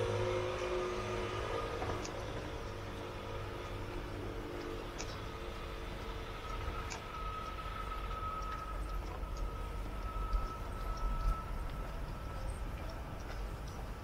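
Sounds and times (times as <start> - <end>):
motor vehicles humming: 0.0 - 14.0
thin steady whine: 0.0 - 14.0.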